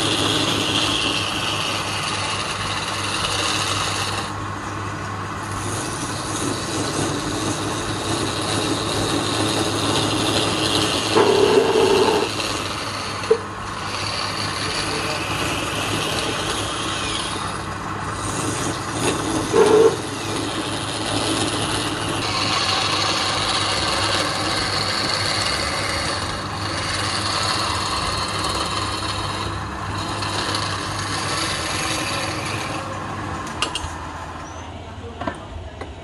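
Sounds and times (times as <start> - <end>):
chisel cutting wood: 0.0 - 34.1
wood lathe motor hum: 0.0 - 34.5.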